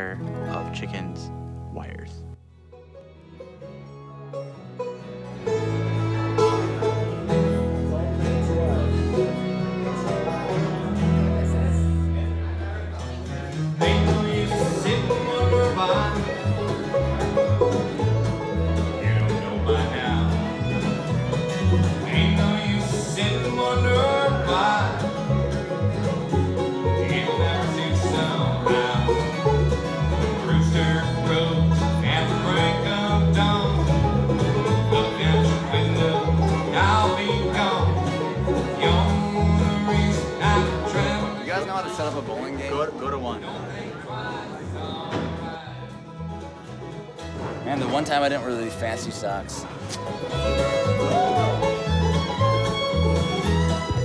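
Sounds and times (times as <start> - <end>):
banjo: 0.0 - 54.0
guitar: 0.0 - 54.0
upright bass: 0.0 - 54.0
fiddle: 2.7 - 44.3, 44.9 - 54.0.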